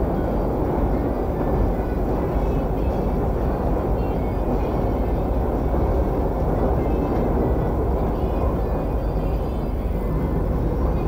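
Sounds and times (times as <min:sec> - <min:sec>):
train rumbling from aboard: 0:00.0 - 0:11.0.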